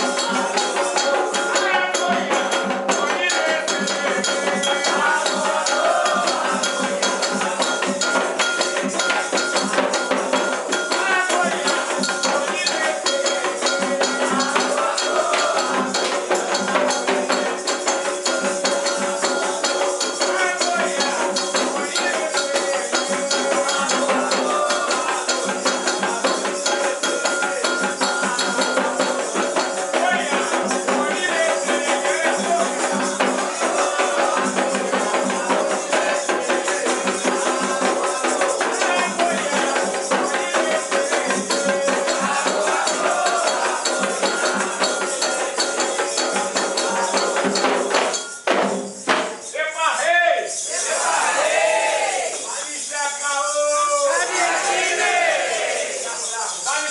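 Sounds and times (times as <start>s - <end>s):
fast percussion: 0.0s - 56.9s
voices singing: 0.0s - 56.9s
shaken rattles: 8.2s - 56.9s.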